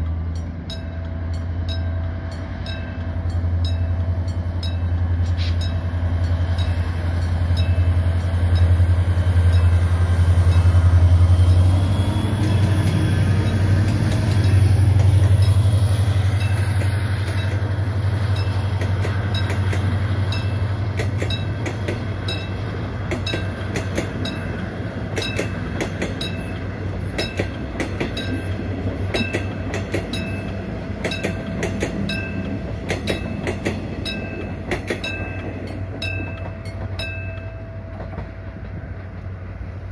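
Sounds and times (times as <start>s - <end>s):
diesel locomotive engine drone: 0.0s - 39.9s
train wheels clicking over rail joints: 0.0s - 39.9s.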